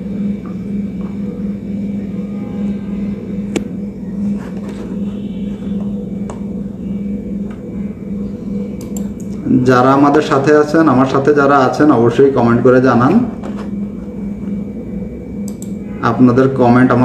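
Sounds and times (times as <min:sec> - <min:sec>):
low pulsing hum: 0:00.0 - 0:17.0.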